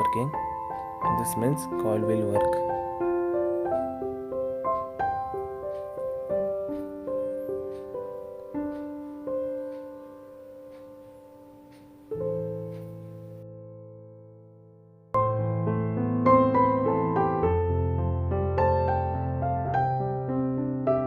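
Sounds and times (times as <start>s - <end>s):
solo piano music: 0.0s - 21.0s.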